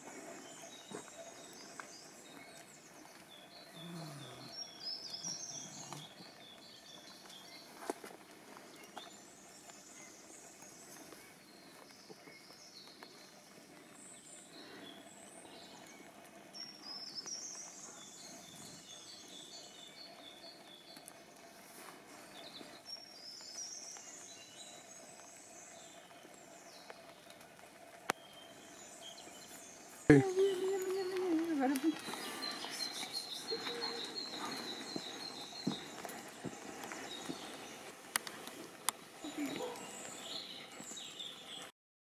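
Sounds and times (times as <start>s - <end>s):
faint outdoor ambience: 0.0s - 41.7s
songbirds chirping: 0.0s - 41.7s.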